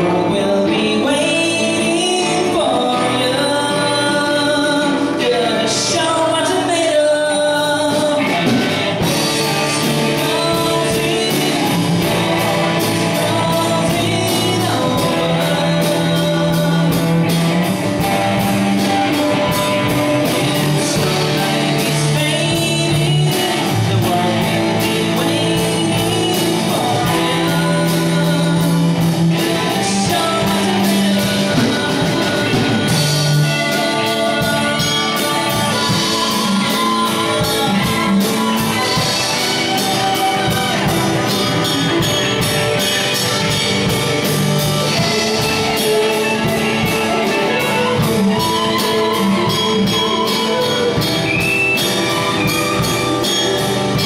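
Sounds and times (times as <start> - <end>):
drum kit beat: 0.0 - 54.0
electric guitars: 0.0 - 54.0
person singing: 0.0 - 54.0.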